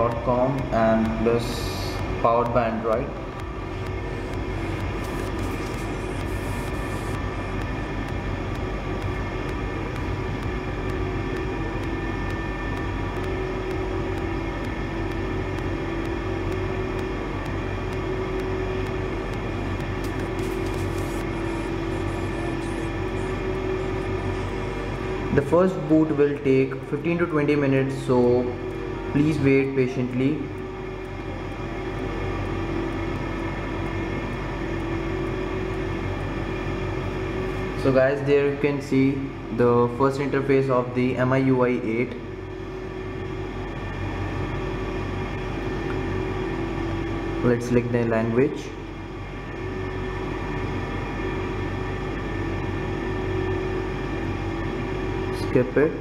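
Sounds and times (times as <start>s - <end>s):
droning hum with held tones: 0.0s - 56.0s.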